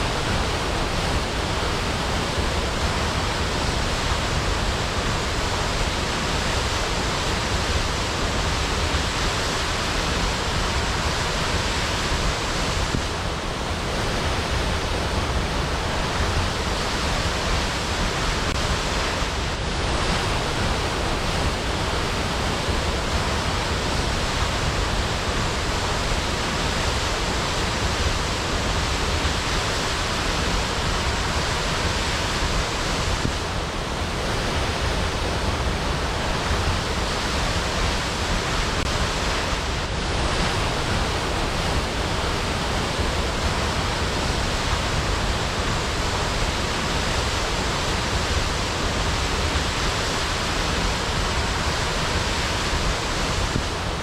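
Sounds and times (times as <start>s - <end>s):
waterfall: 0.0s - 54.0s.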